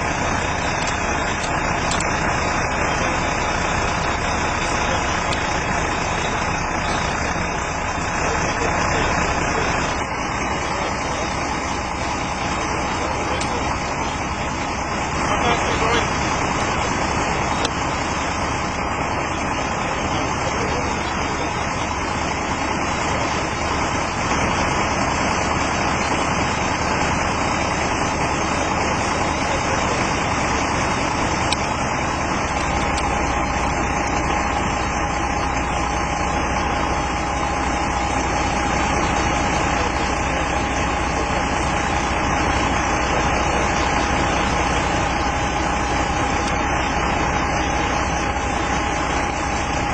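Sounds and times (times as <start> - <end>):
steady tone: 0.0 - 49.9
vehicle engine idling: 0.0 - 49.9.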